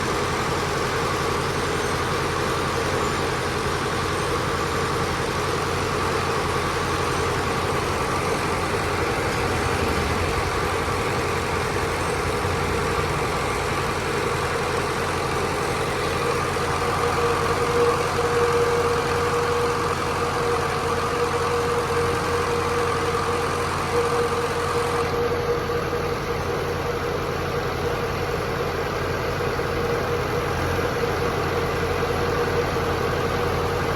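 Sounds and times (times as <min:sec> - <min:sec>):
machinery hum: 0:00.0 - 0:33.9.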